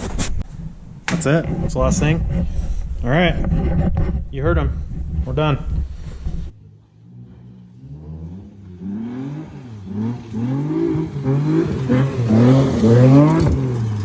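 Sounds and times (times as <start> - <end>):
car engine revving: 0.9 - 14.0.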